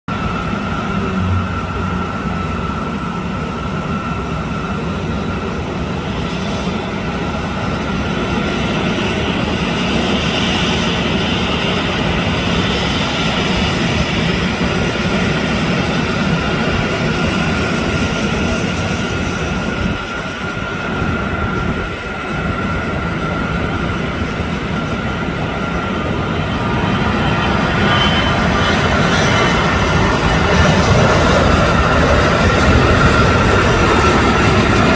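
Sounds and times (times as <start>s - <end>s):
airliner engine noise: 0.1s - 34.9s
steady whine: 0.1s - 34.9s.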